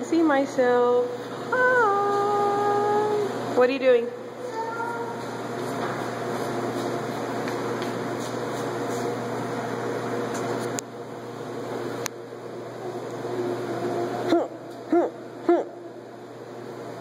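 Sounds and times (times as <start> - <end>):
laundromat machines humming: 0.0 - 17.0.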